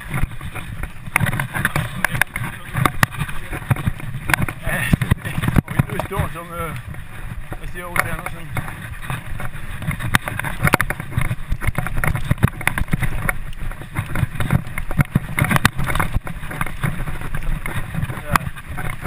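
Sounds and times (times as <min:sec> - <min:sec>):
bike rattling over bumps: 0:00.0 - 0:19.0
bike tyre noise on dirt: 0:00.0 - 0:19.0.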